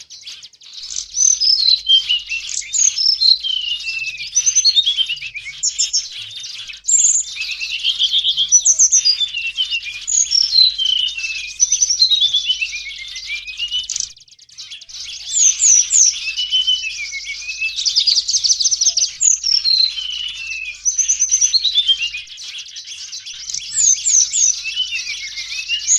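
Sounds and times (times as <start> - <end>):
small birds chattering: 0.0 - 25.9.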